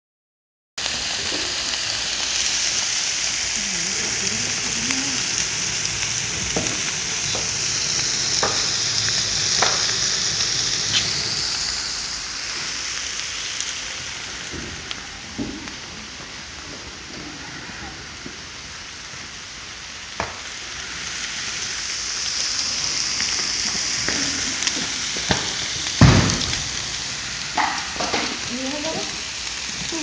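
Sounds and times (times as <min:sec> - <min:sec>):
fire pops and crackles: 0:00.8 - 0:30.0
meat sizzling over wood fire: 0:00.8 - 0:30.0.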